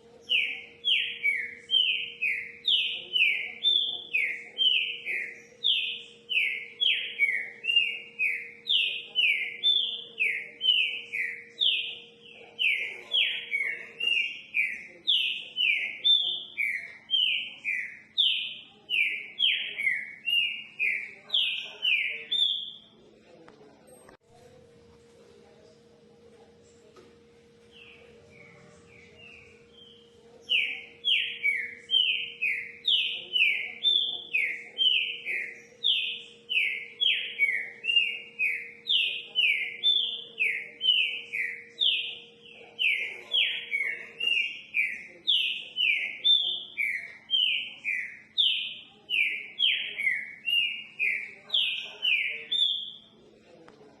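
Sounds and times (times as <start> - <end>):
bird singing whistled notes: 0.2 - 22.8, 27.8 - 53.1.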